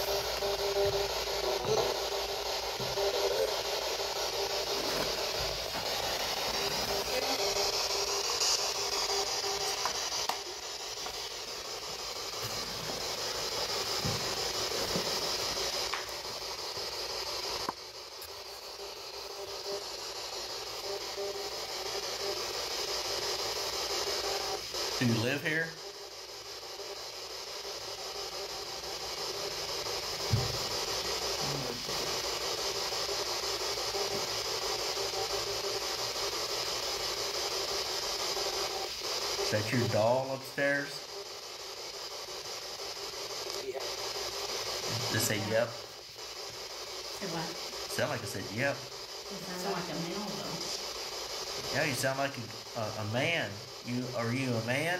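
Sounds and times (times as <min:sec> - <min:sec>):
radio static hiss: 0:00.0 - 0:54.9.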